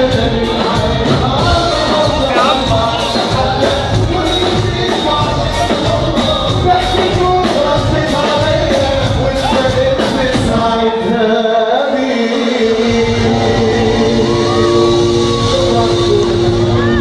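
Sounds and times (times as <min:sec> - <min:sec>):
band playing steady beat: 0:00.0 - 0:10.8, 0:12.8 - 0:17.0
man singing into microphone: 0:00.0 - 0:17.0.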